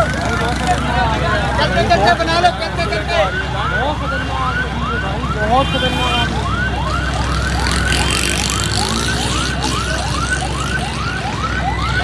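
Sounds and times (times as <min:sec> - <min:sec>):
siren in a fast yelp: 0:02.4 - 0:12.0.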